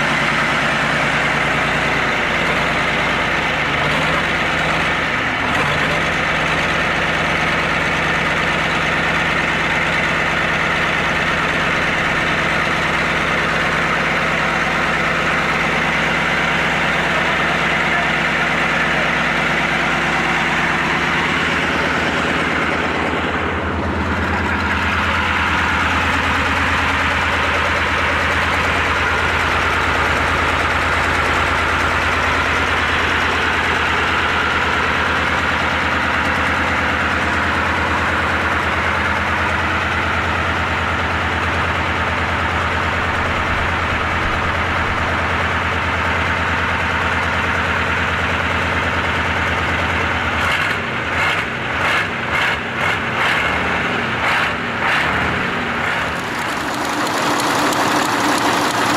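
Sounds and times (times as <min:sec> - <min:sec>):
truck engine idling: 0:00.0 - 0:58.9.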